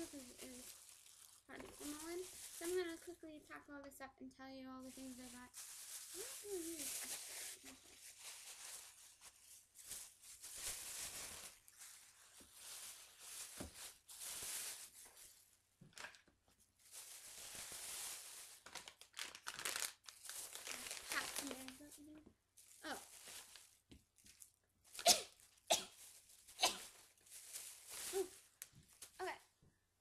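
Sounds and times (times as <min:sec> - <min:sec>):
plastic bag rustling: 0:00.0 - 0:03.6, 0:04.7 - 0:29.4.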